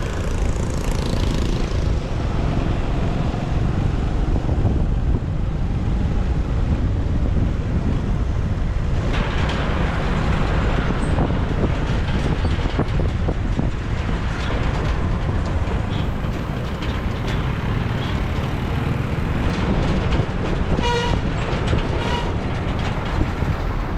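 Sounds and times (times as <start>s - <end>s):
motorbike engine and road noise: 0.0s - 23.9s
wind buffeting microphone: 0.0s - 23.9s.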